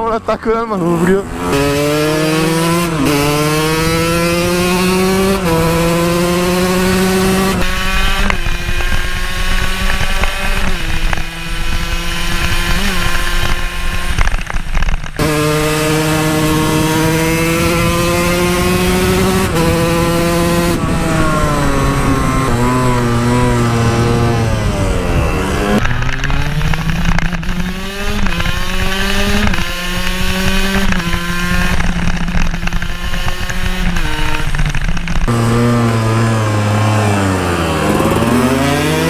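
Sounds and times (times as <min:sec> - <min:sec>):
motorbike engine pulling hard: 0:00.8 - 0:39.0
wind rush on microphone: 0:01.5 - 0:36.4.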